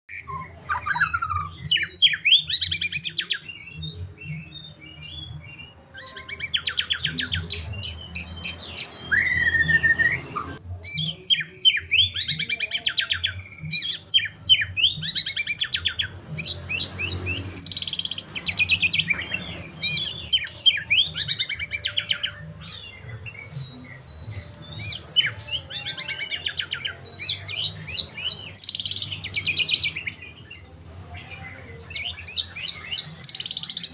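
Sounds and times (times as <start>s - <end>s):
bird singing twittering trills: 0.1s - 33.9s.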